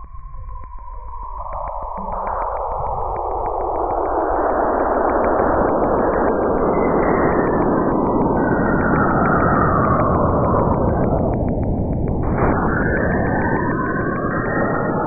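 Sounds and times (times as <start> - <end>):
rapid train of clicks: 1.5 - 15.0.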